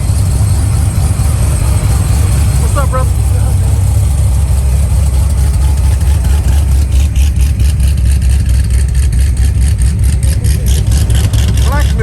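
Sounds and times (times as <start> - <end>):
car engine rumbling past: 0.0 - 12.0.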